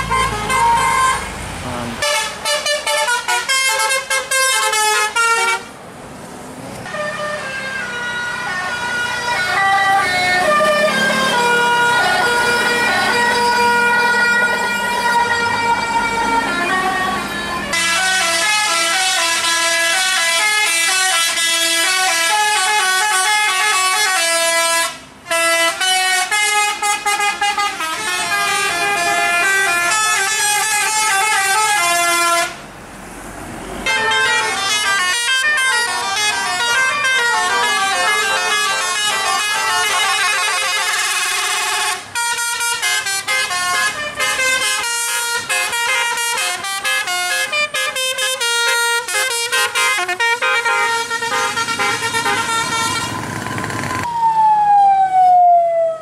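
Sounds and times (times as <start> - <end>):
bus musical horns playing tunes: 0.0 - 5.8, 6.8 - 32.7, 33.8 - 54.0.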